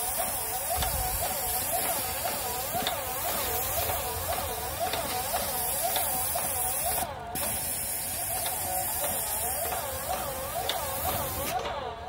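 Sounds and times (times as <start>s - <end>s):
paint sprayer hissing: 0.0s - 12.0s.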